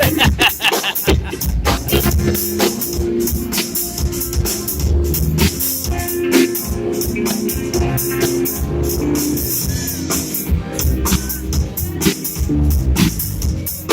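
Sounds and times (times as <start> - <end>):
drum kit with cymbal hits: 0.0 - 13.9
electric guitar: 0.0 - 13.9
heavy low bass notes: 0.0 - 13.9.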